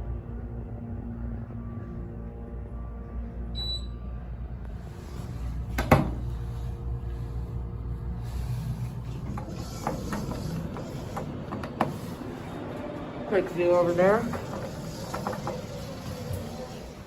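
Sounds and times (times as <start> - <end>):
elevator cab low hum: 0.0 - 17.0.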